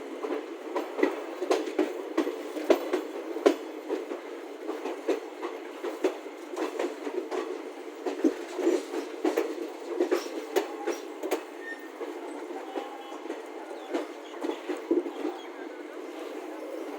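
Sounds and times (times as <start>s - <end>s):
train rumble: 0.0s - 16.9s
train wheels clattering: 0.2s - 15.5s.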